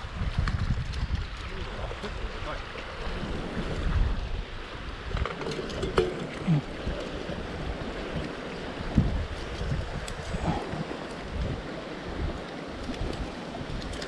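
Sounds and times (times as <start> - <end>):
waves lapping on gravel shore: 0.0 - 14.0
wind buffeting microphone: 0.0 - 14.0.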